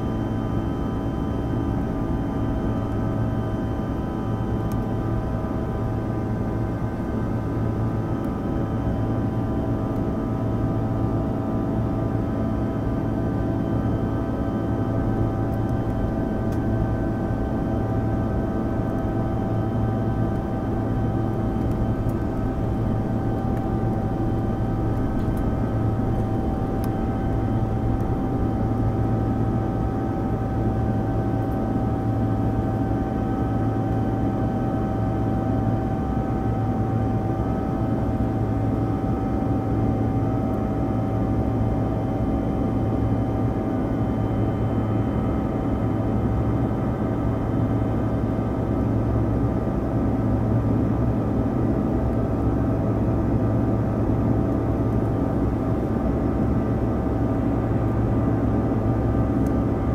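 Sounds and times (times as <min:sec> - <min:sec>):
jet engines and airflow drone: 0:00.0 - 0:59.9.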